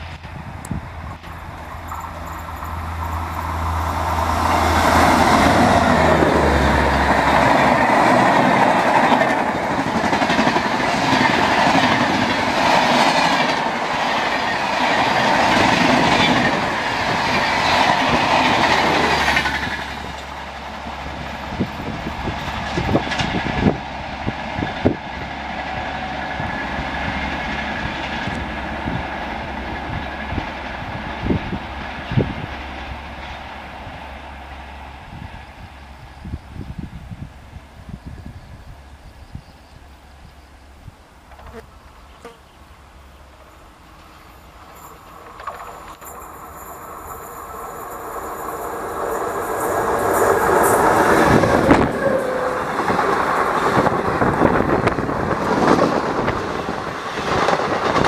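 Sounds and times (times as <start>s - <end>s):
clickety-clack over rail joints: 0.0s - 34.9s, 41.2s - 41.6s, 43.3s - 58.0s
train passing at high speed: 0.0s - 58.0s.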